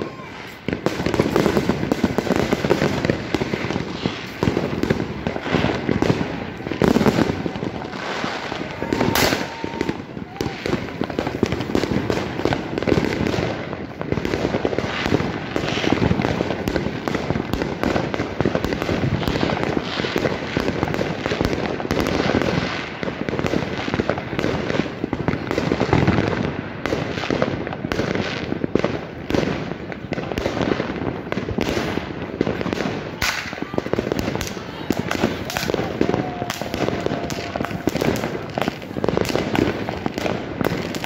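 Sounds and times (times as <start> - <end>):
fireworks and firecrackers banging: 0.0 - 41.0.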